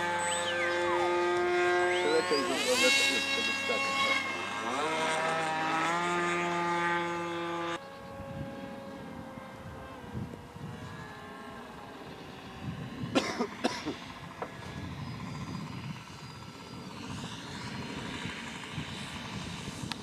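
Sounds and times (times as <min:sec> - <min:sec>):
model airplane engine and propeller: 0:00.0 - 0:20.0.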